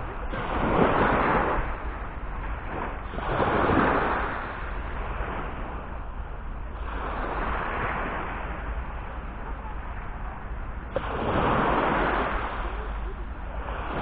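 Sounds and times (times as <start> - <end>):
small waves breaking on sand: 0.0 - 14.0
wind rumble on microphone: 0.0 - 14.0.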